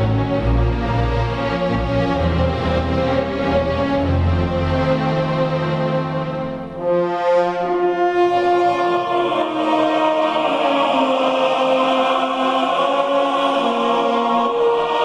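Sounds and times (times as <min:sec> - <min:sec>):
choir singing long notes: 0:00.0 - 0:15.0.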